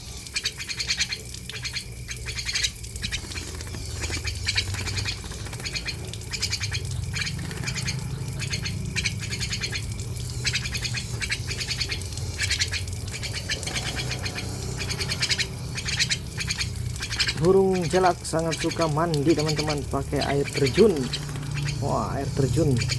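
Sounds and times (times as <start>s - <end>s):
low background hum: 0.0s - 22.9s.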